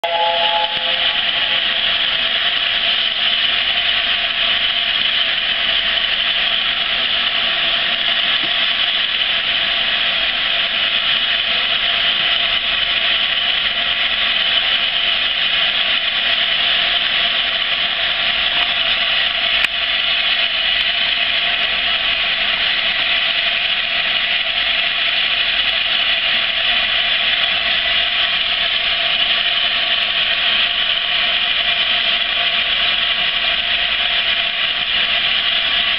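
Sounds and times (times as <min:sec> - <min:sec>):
steam locomotive hissing steam: 0:00.0 - 0:35.9.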